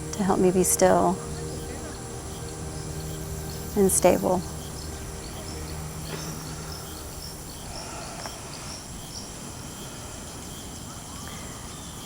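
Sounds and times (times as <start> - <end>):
low outdoor hum: 0.0 - 11.5
insects trilling: 0.0 - 12.0.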